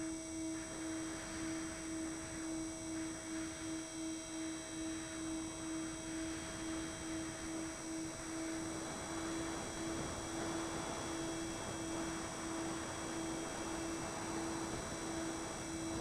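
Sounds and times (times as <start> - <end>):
electric model plane motors droning: 0.0 - 16.0.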